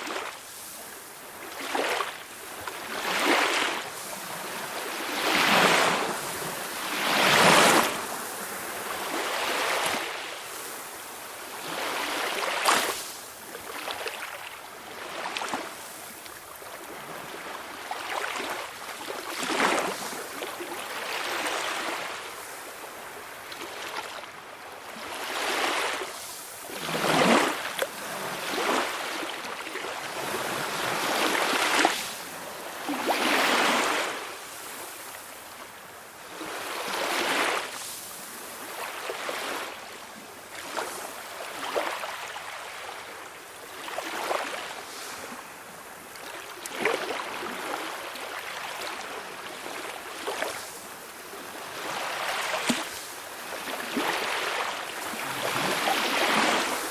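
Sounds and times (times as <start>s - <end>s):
sea waves washing over shore: 0.0s - 56.9s.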